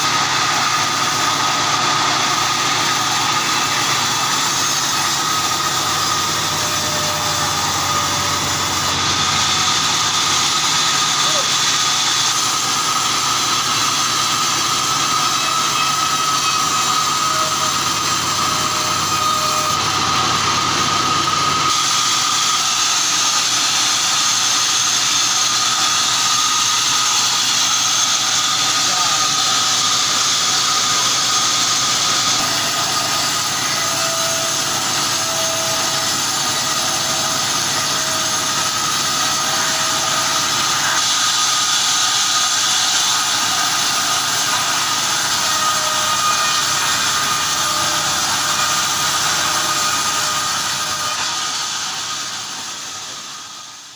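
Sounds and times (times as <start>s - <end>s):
band sawmill whining: 0.0s - 53.9s.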